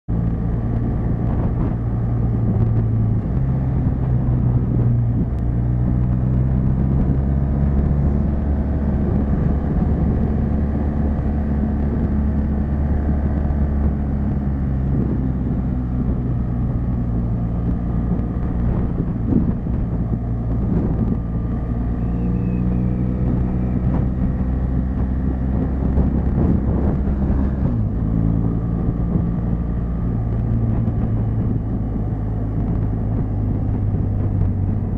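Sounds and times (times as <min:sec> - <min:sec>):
motorcycle engine running: 0:00.1 - 0:34.9
wind rush over microphone: 0:00.1 - 0:34.9.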